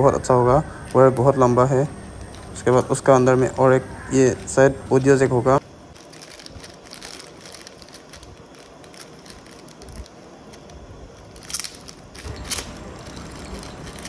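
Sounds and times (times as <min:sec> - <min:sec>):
plastic bag crinkling: 0:00.7 - 0:14.0.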